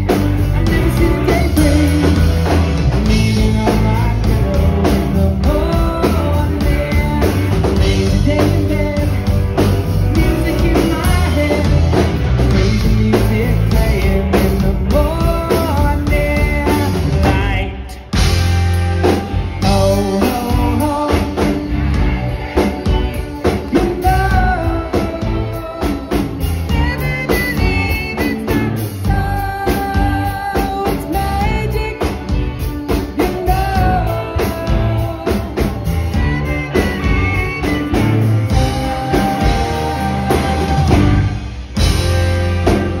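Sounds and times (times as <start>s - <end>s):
live rock band playing: 0.0s - 43.0s
male lead vocal: 0.0s - 43.0s.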